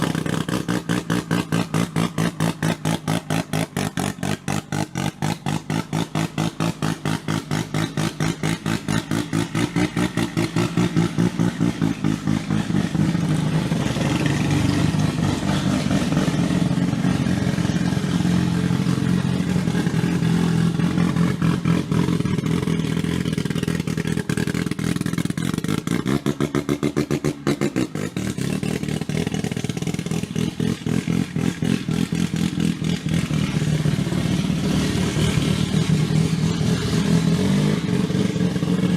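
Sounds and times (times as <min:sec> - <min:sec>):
rotary engine revving: 0:00.0 - 0:38.9.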